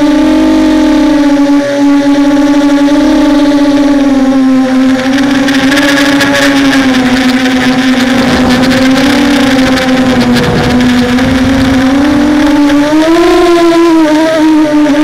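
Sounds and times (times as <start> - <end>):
drone motors whining: 0.0 - 15.0
wind rumble on microphone: 0.0 - 15.0.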